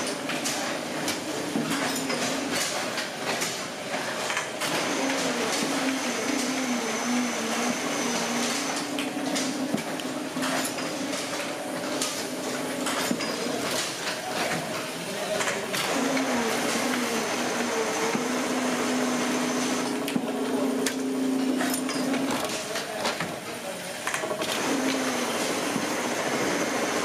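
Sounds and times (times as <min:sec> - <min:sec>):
machine clicks and clatter: 0:00.0 - 0:18.8, 0:19.7 - 0:27.0.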